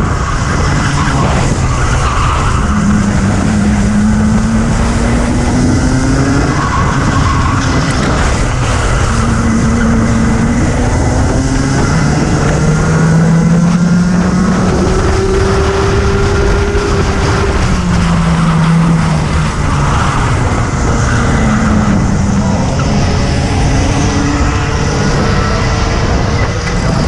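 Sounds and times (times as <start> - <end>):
kart engine revving: 0.0 - 27.0
wind rushing on microphone: 0.0 - 27.0.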